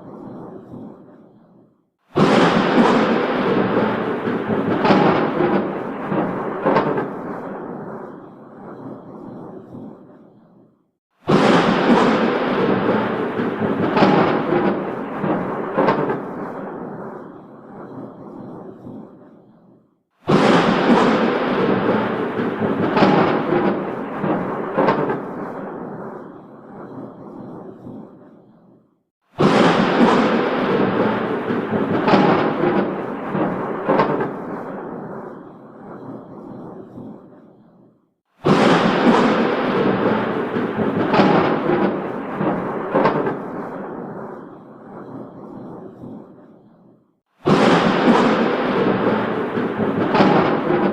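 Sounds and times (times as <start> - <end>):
thunder rumbling: 0.0 - 50.9
sharp thunder cracks: 2.0 - 10.2, 11.1 - 19.3, 20.2 - 28.4, 29.3 - 37.4, 38.4 - 50.9.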